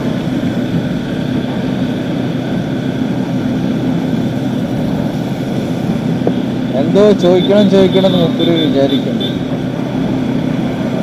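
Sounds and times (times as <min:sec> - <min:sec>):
motorcycle engine running: 0:00.0 - 0:11.0
steady rushing noise: 0:00.0 - 0:11.0.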